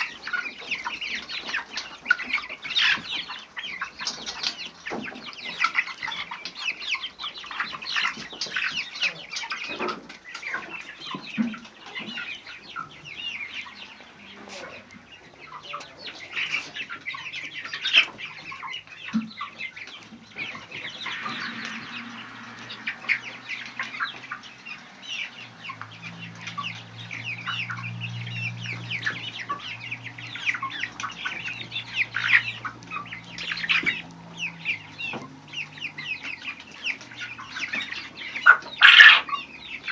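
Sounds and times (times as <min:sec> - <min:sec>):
poultry clucking: 0:00.0 - 0:39.9.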